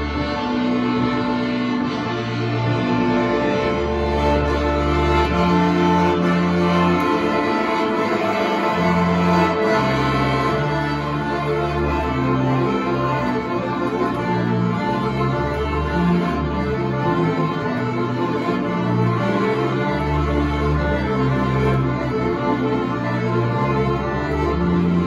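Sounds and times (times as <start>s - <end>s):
accordion melody: 0.0s - 25.0s
bowed double bass: 0.0s - 25.0s.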